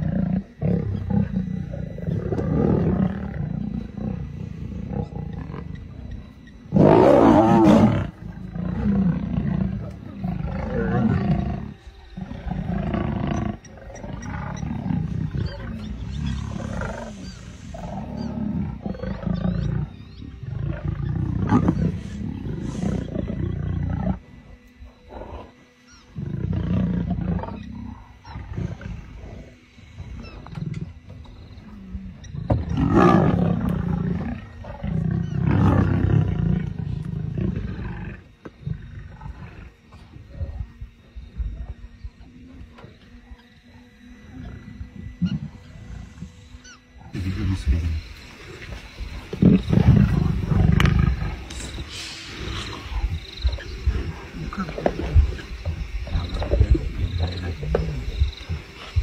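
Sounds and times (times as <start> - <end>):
lionesses growling: 0.0 - 59.0.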